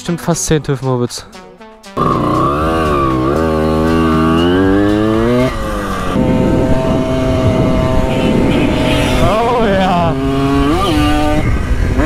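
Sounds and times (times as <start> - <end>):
moped two-stroke engine revving: 2.0 - 12.0.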